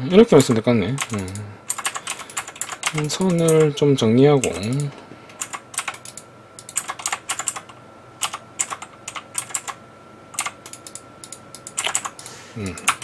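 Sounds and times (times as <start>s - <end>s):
keyboard typing clicks: 0.4s - 3.7s, 4.4s - 9.8s, 10.4s - 13.0s.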